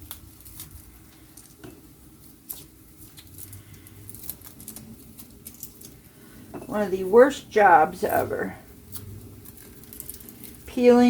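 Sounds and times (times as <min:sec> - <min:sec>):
garlic skins crackling: 0:00.0 - 0:11.0.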